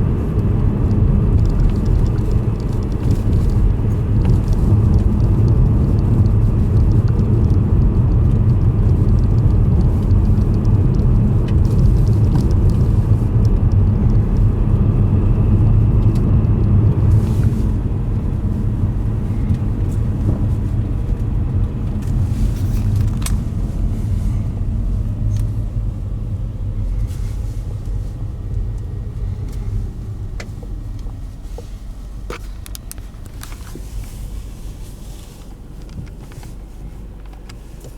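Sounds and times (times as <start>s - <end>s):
train rumbling: 0.0s - 37.9s.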